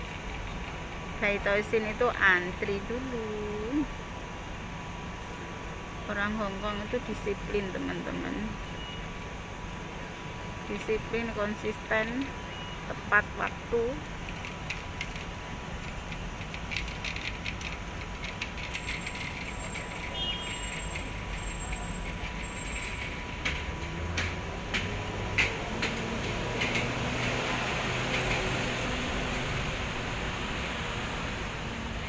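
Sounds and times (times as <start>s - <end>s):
traffic rumble: 0.0s - 32.0s.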